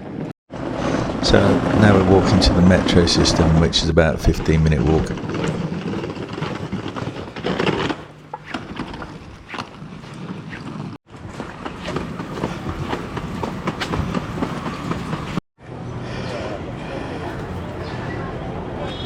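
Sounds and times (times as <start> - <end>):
city street noise: 0.0 - 19.0.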